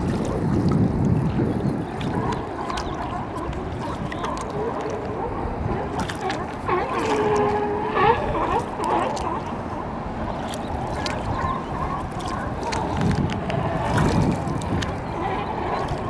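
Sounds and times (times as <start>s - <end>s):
water sloshing and gurgling: 0.0s - 16.0s
sea lions barking: 2.0s - 16.0s.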